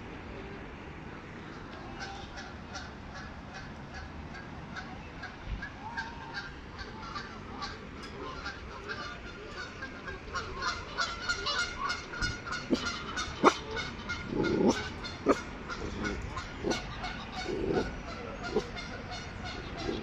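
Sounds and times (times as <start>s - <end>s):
waterfowl honking: 2.0s - 20.0s.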